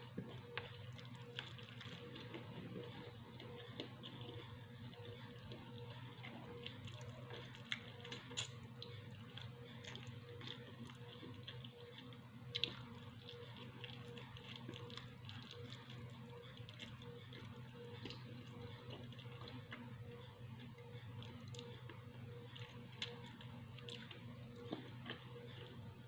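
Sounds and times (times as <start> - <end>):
chewing: 0.0 - 26.0
low electrical hum: 0.0 - 26.0.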